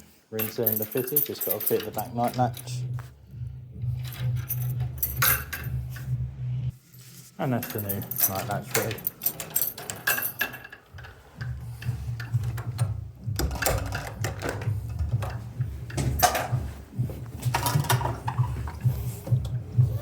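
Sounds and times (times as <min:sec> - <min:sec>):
metal hardware clicks and knocks: 0:00.4 - 0:03.0, 0:03.8 - 0:06.1, 0:07.6 - 0:16.7, 0:17.5 - 0:19.6.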